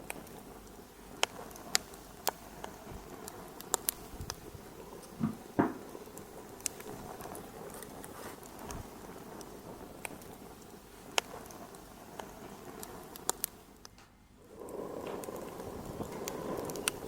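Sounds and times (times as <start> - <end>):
wood fire crackling: 0.0 - 17.0
deep fire pops: 1.1 - 13.4, 14.4 - 17.0.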